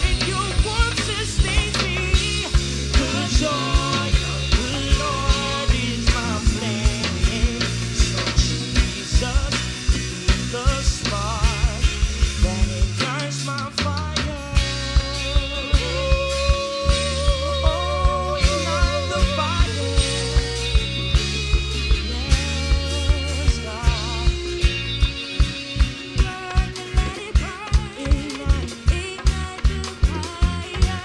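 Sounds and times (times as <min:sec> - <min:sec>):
drum kit beat: 0:00.0 - 0:31.0
sustained bass: 0:00.0 - 0:31.0.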